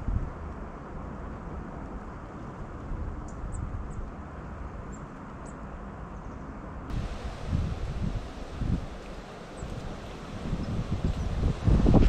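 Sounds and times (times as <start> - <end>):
wind rumble on microphone: 0.0 - 5.0, 6.8 - 12.0.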